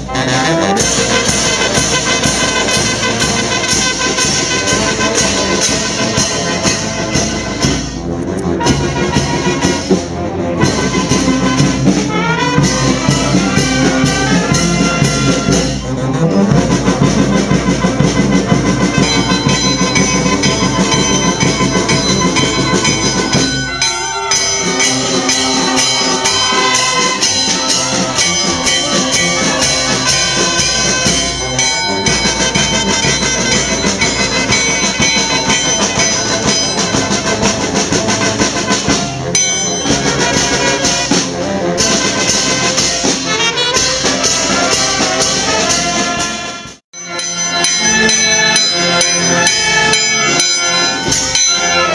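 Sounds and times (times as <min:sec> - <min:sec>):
brass band playing: 0:00.0 - 0:51.9.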